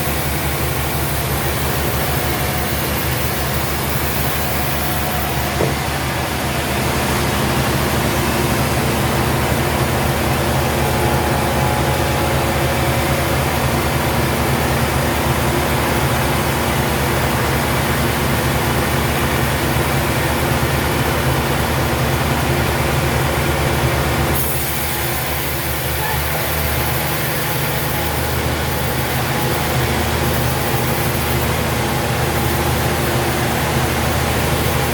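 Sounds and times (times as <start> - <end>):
hissing saw: 0.0 - 20.7, 24.3 - 34.9
sawmill motor running: 0.0 - 34.9.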